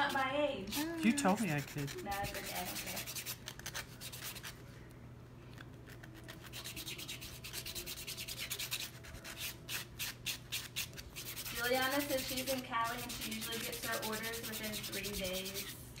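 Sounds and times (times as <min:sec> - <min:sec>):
nail buffer rubbing nails: 0:00.0 - 0:04.6, 0:05.5 - 0:16.0.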